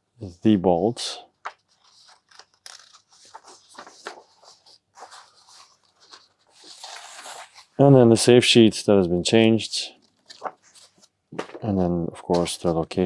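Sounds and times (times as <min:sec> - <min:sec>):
cards and paper shuffling: 0:01.3 - 0:13.0.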